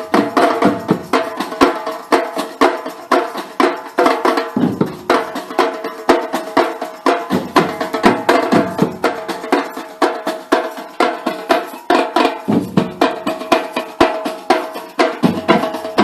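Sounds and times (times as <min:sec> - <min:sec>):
music with quick drum beat: 0:00.0 - 0:16.0.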